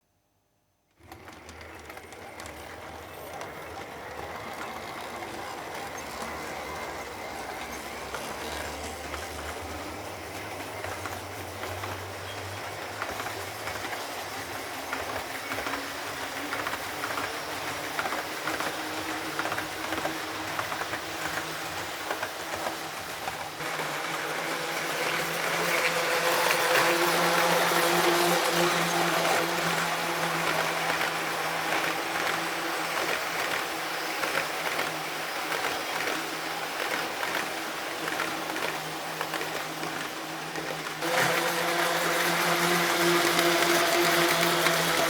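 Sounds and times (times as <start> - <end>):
model train motor hum: 1.0 - 45.0
wheels clicking over rail joints: 1.0 - 45.0.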